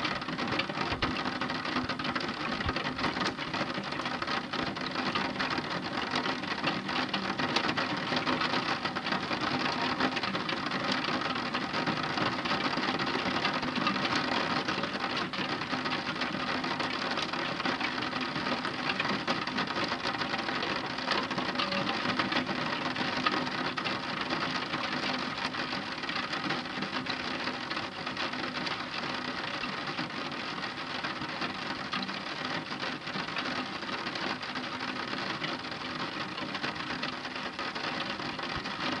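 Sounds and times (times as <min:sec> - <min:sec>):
heavy rain on hard surface: 0:00.0 - 0:39.0.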